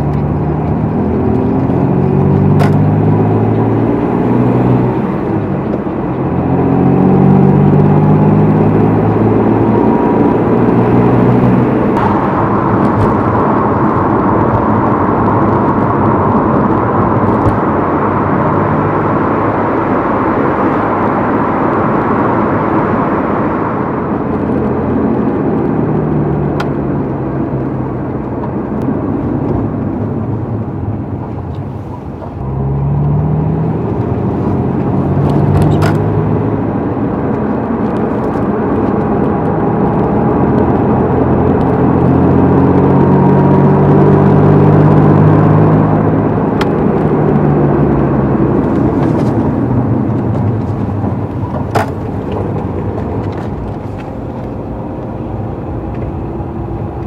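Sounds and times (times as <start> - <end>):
car engine running: 0.0 - 57.0
road noise: 0.0 - 57.0.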